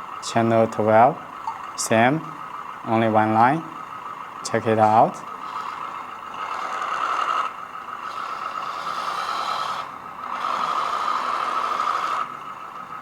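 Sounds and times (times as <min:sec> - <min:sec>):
simulated diesel engine from speaker: 0:00.0 - 0:13.0.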